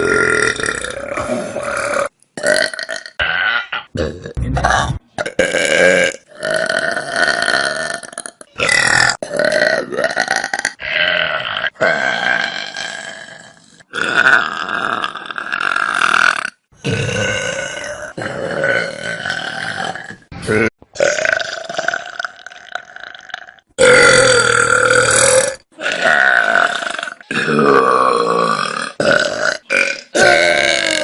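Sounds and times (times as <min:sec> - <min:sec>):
person burping: 0:00.0 - 0:31.0.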